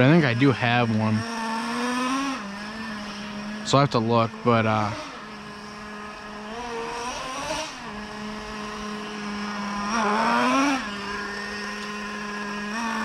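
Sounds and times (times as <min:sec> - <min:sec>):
nitro engine idling and revving: 0:00.0 - 0:13.0.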